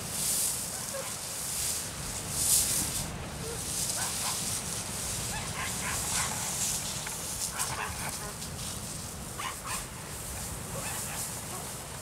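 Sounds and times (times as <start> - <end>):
surf on shingle beach: 0.0 - 12.0
wind rumbling on microphone: 0.0 - 12.0.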